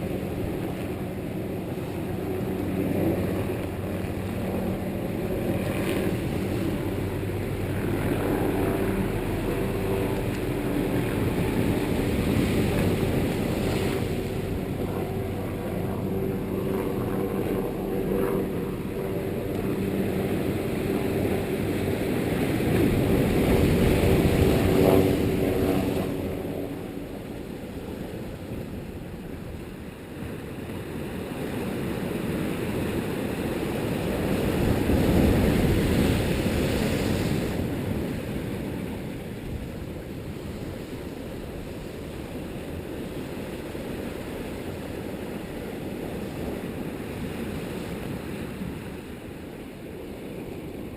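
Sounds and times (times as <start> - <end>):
wind rumbling on microphone: 0.0 - 50.9.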